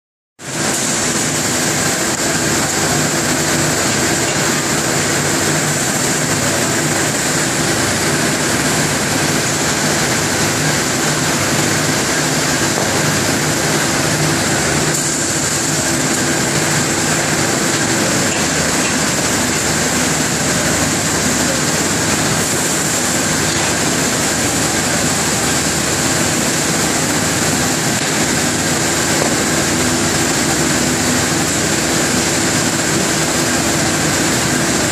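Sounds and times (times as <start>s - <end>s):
furnace burners hissing: 0.4s - 34.9s.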